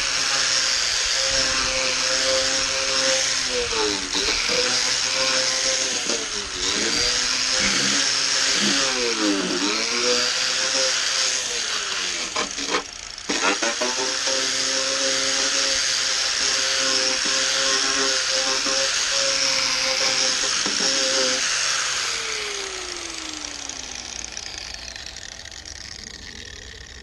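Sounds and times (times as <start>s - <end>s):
power tool wire brush on metal: 0.0s - 27.0s.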